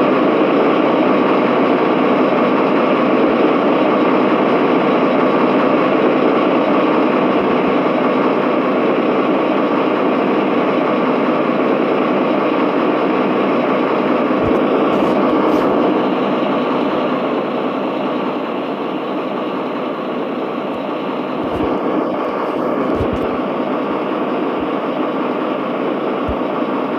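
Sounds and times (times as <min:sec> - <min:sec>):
truck engine running: 0:03.6 - 0:26.9.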